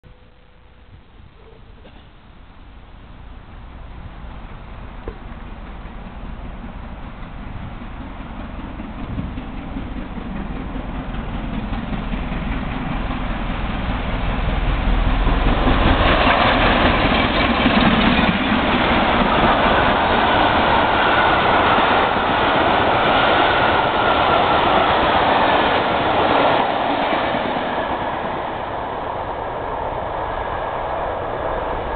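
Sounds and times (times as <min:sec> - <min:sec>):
steam train passing: 0:01.4 - 0:31.9.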